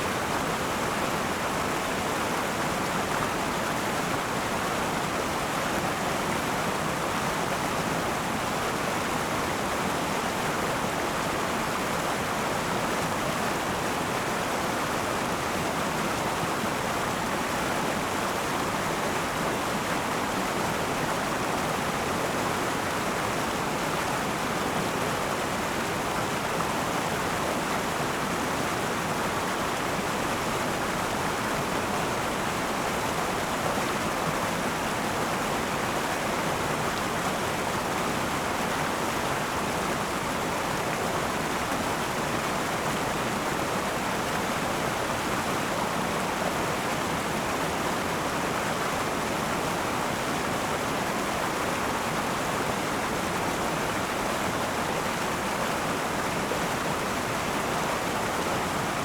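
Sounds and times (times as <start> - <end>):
river water rushing over stones: 0.0 - 59.0.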